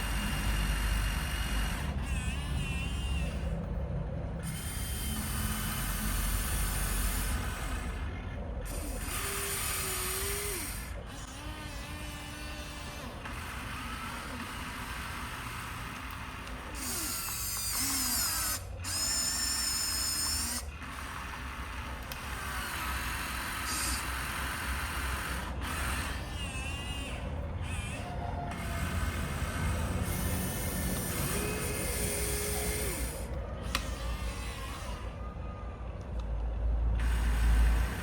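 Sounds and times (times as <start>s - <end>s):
small electric motors whining: 0.0s - 36.2s, 36.9s - 38.0s.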